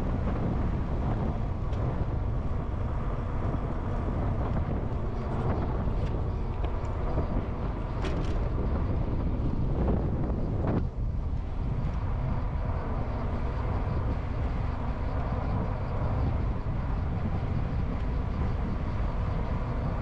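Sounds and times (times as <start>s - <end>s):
tyre and road noise: 0.0s - 20.0s
wind buffeting microphone: 0.0s - 20.0s.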